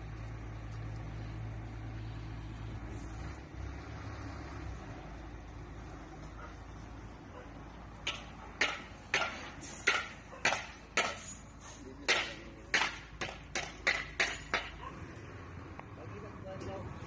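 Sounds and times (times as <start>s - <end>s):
truck engine running: 0.0s - 15.9s.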